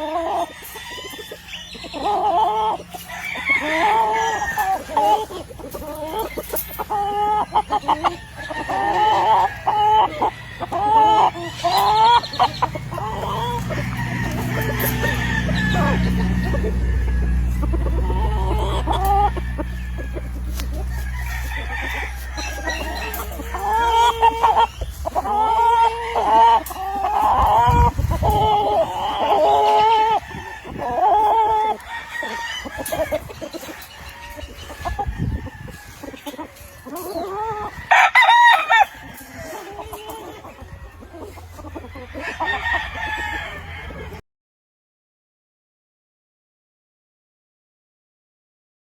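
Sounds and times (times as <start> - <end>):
chickens clucking: 0.0 - 44.2
roosters crowing: 0.0 - 44.2.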